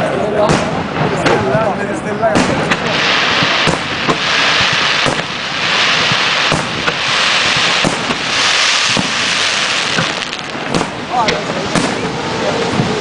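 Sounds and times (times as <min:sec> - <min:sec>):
firework bangs: 0:00.2 - 0:13.0
dense firework hiss: 0:02.3 - 0:13.0.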